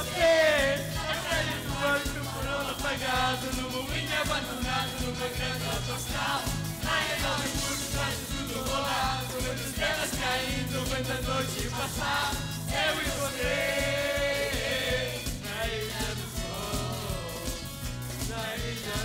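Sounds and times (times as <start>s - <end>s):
backing track with bass beat: 0.0s - 19.0s
people singing karaoke: 0.0s - 19.0s.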